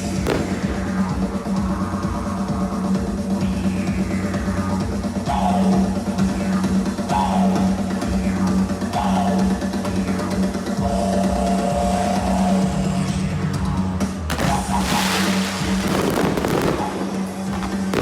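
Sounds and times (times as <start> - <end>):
loud rock music: 0.0 - 18.0.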